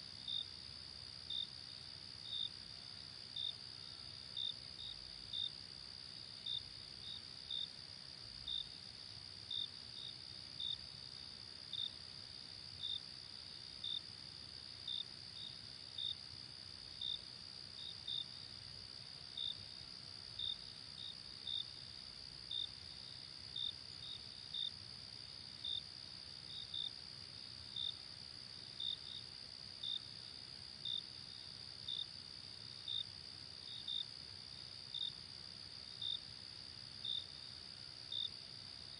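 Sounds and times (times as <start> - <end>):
cricket chirps: 0.0 - 38.9.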